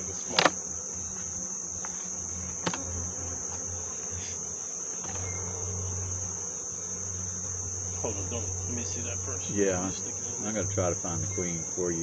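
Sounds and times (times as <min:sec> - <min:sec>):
high-pitched insect drone: 0:00.0 - 0:12.0
honeybees buzzing: 0:00.0 - 0:12.0.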